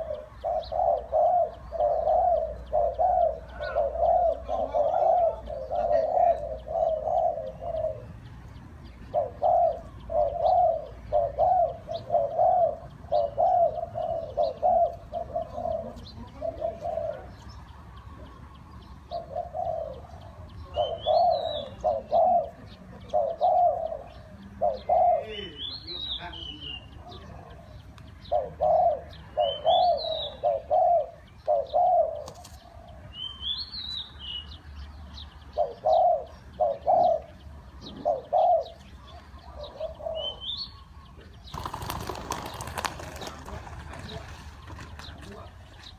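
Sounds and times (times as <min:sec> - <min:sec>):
doves cooing: 0:00.0 - 0:33.6, 0:35.2 - 0:45.9
high bird chirping call: 0:00.0 - 0:43.3.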